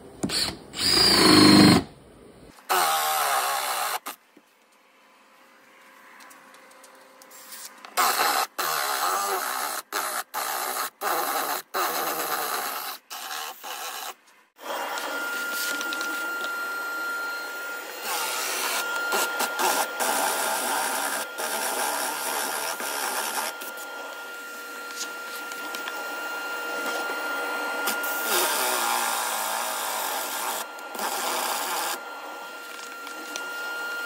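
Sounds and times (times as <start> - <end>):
cordless drill boring into wood: 0.2 - 1.9, 2.7 - 4.1, 8.0 - 14.0, 14.6 - 34.0.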